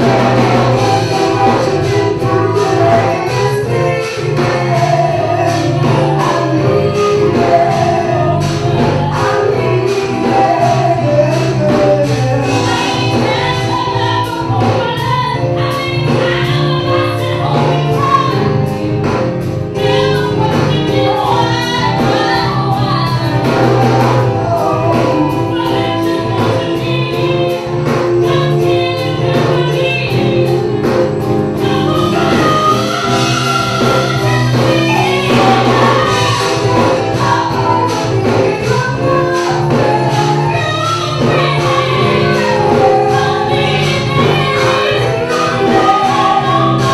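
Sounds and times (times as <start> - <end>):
drums: 0.0 - 46.9
keyboards: 0.0 - 46.9
woman singing: 0.0 - 46.9.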